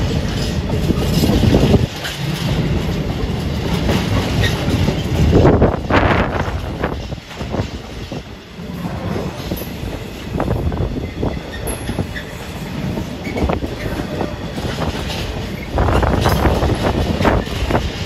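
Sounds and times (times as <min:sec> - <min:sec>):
freight train rumbling past: 0:00.0 - 0:18.0
wheels clacking over rail joints: 0:00.0 - 0:18.0.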